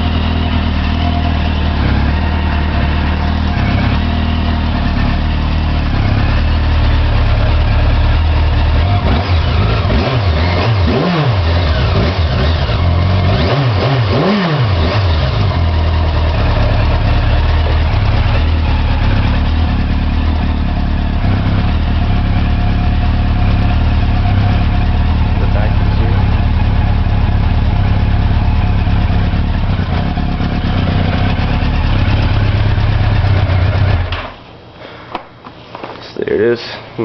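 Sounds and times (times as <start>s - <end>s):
motorcycle engine idling and revving: 0.0s - 34.8s.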